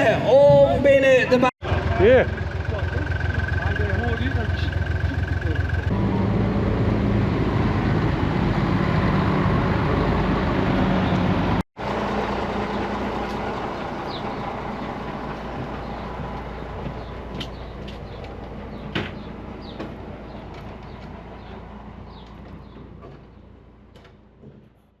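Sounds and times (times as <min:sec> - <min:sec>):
tractor engine running: 0:01.6 - 0:24.6.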